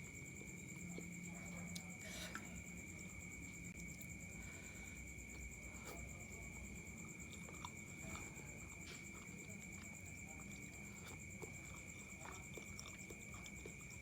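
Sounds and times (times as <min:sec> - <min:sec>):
steady high-pitched hum: 0:00.0 - 0:14.0
person chewing noodles: 0:00.3 - 0:14.0.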